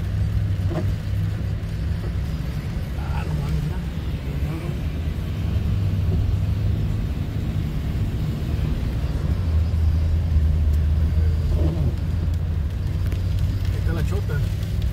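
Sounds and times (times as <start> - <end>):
vehicle rumble on wet road: 0.0 - 14.9.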